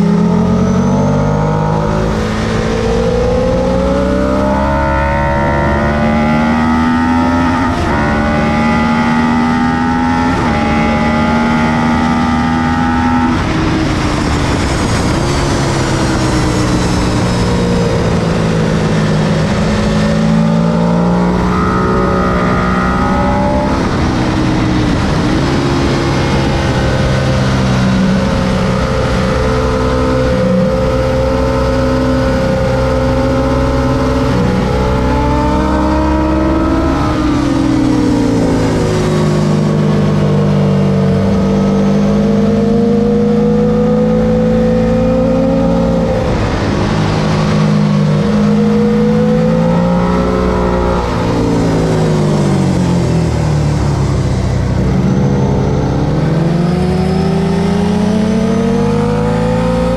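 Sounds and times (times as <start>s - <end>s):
motorcycle engine revving with gear shifts: 0.0s - 59.9s
steady rush of noise: 0.0s - 59.9s.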